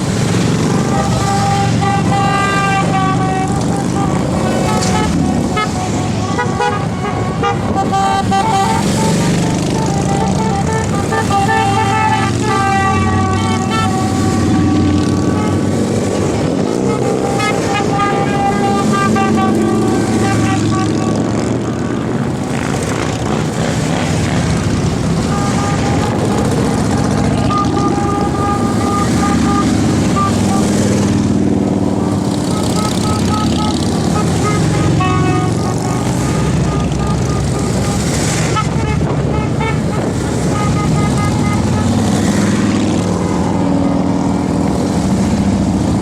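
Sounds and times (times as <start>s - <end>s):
motorcycles rumbling past: 0.0s - 46.0s
motorcycle horn toots: 0.7s - 21.7s, 25.1s - 31.2s, 32.3s - 42.5s.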